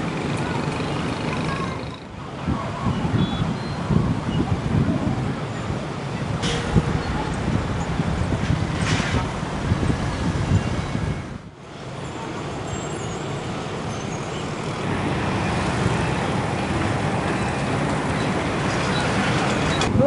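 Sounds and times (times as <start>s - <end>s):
motorbikes and cars passing: 0.0s - 20.0s.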